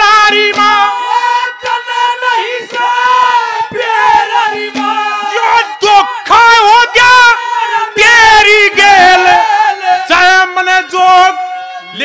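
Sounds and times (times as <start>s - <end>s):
man singing high held notes: 0.0s - 12.0s
musical accompaniment: 0.0s - 12.0s.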